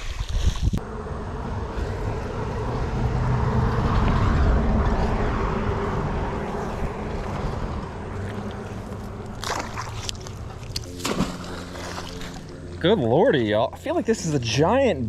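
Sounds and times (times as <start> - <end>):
engine drone passing by: 0.8 - 15.0.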